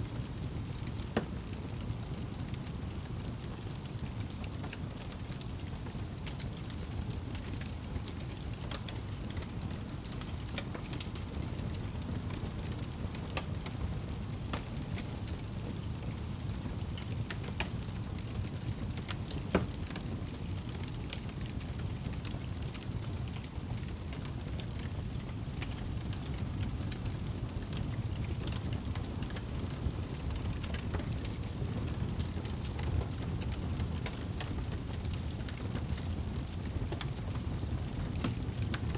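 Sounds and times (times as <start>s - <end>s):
wood fire crackling: 0.1s - 38.9s.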